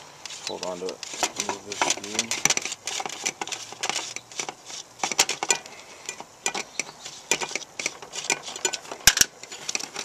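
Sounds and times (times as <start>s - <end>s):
small screws and nuts clicking: 0.2s - 10.0s.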